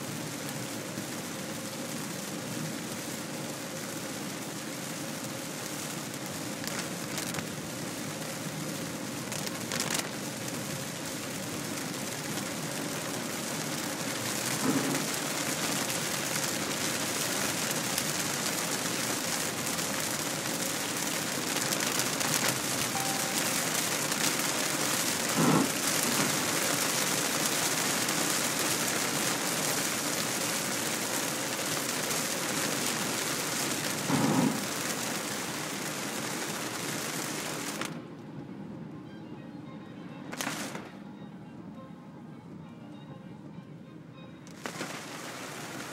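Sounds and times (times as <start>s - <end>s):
heavy rain on car roof: 0.0s - 38.1s, 40.4s - 40.8s, 44.5s - 45.9s.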